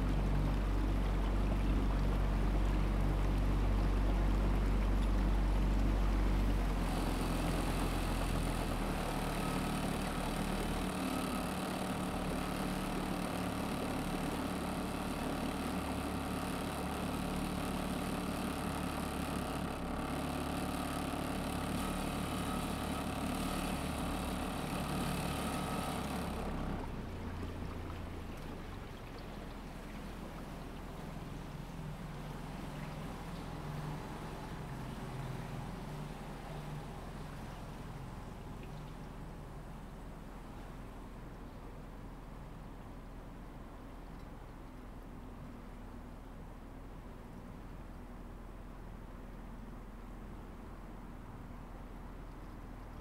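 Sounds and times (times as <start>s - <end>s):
boat motor running: 0.0s - 53.0s.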